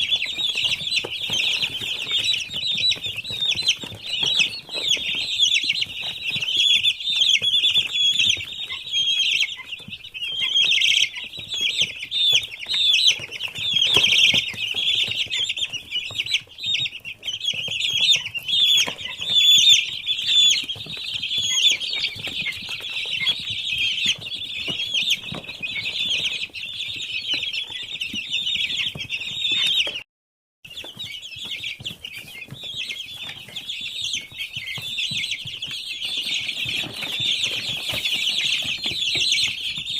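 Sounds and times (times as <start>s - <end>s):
chicks peeping: 0.0s - 30.0s, 30.7s - 39.9s.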